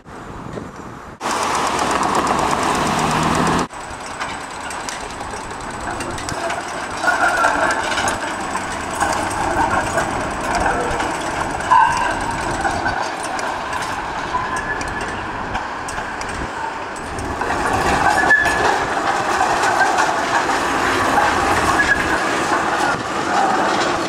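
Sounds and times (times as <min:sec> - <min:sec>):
tram wheels clattering on rails: 0:00.5 - 0:24.0
loud burst of noise: 0:01.2 - 0:24.0.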